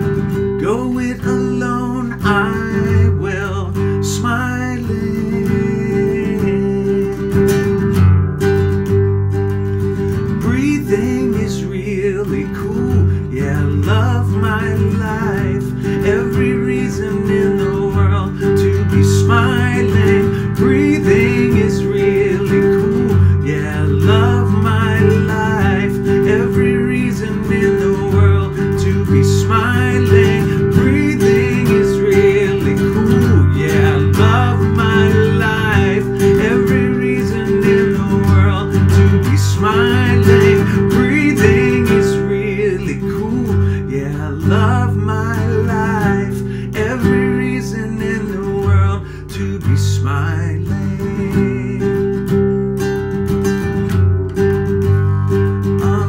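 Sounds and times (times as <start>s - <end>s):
man singing: 0.0s - 8.1s, 9.7s - 56.0s
acoustic guitar strumming: 0.0s - 56.0s.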